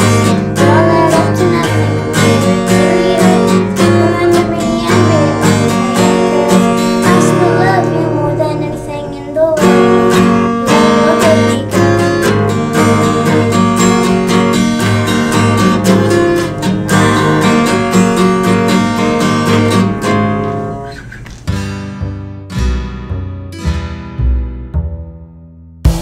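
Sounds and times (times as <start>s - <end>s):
acoustic guitar strummed: 0.0s - 26.0s.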